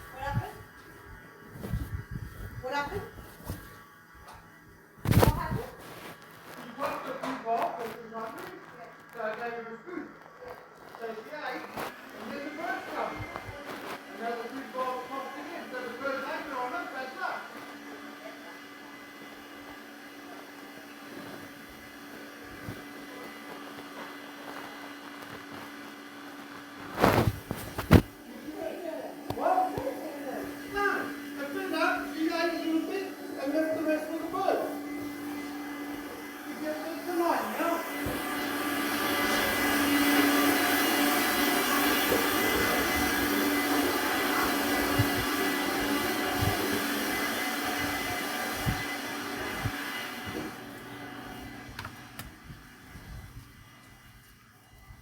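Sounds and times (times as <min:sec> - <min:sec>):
steady hum: 0:00.0 - 0:17.6, 0:24.4 - 0:55.0.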